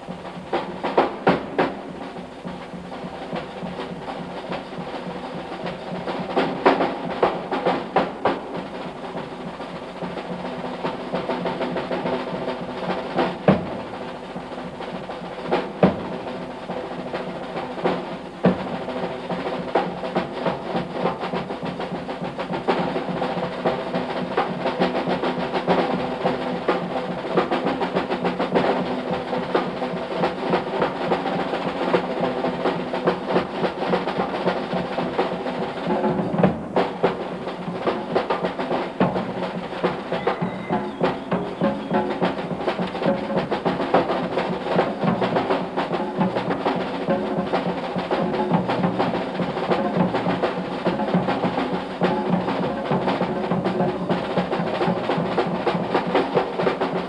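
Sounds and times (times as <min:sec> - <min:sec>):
drum kit solo: 0:00.0 - 0:57.0.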